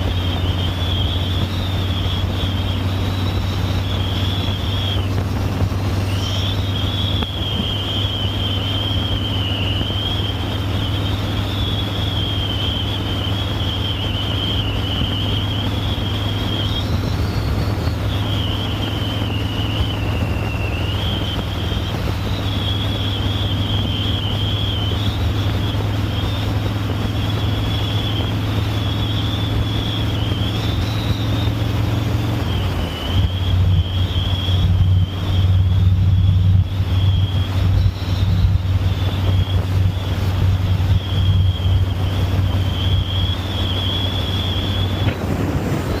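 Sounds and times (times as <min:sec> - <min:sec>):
high wavering whistle: 0:00.0 - 0:46.0
wind rush on microphone: 0:00.0 - 0:46.0.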